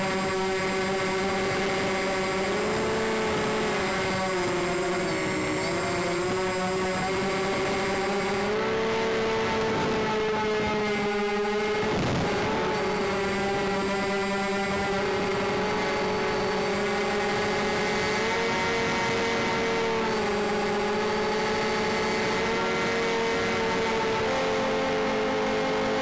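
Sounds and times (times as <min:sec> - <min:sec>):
faint high whine: 0:00.0 - 0:26.0
model airplane propellers droning: 0:00.0 - 0:26.0.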